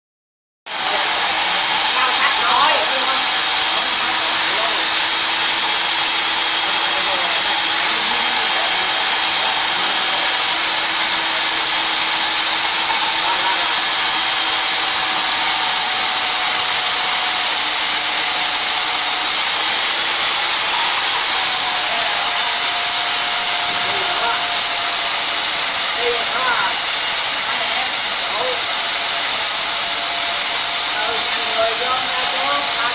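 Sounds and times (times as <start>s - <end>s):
core drill cutting concrete: 0.7s - 32.9s.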